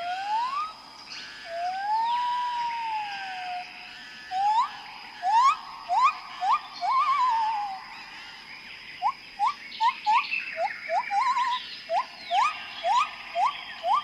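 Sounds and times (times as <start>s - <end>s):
rising whistled animal calls: 0.0s - 3.7s, 4.3s - 7.8s, 9.0s - 14.0s
faint high chirps: 0.0s - 14.0s.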